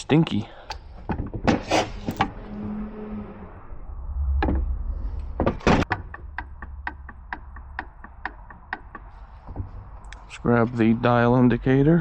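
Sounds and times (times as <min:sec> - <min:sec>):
low hum: 0:01.8 - 0:11.8.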